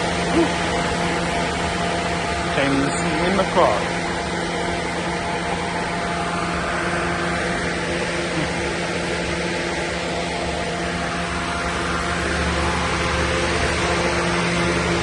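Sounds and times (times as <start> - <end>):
steady mechanical drone: 0.0 - 15.0.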